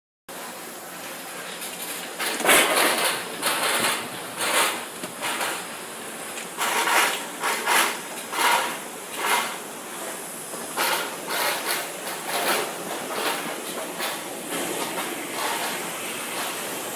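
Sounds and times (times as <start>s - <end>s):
washing machine hissing and surging: 0.3s - 16.9s.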